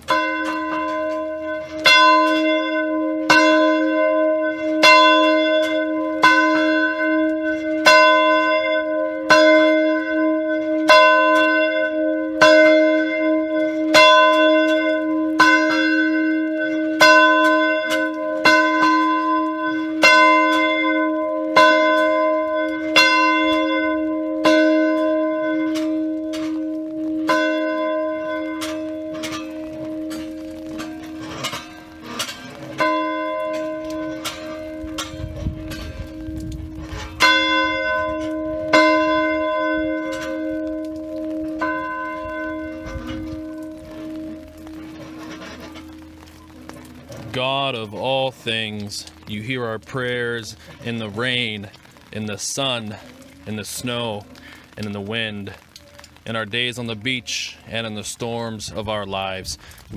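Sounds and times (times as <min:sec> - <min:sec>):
church bell ringing: 0:00.0 - 0:52.2.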